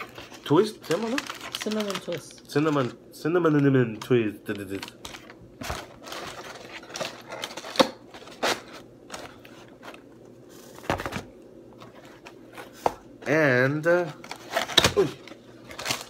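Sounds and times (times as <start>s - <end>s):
food packaging rustling and tapping: 0.0s - 13.2s.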